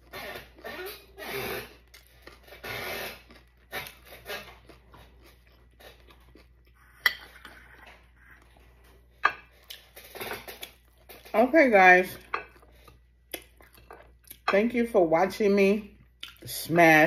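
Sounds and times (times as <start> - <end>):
chewing and crunching taco shell: 0.0 - 11.4, 12.2 - 14.5.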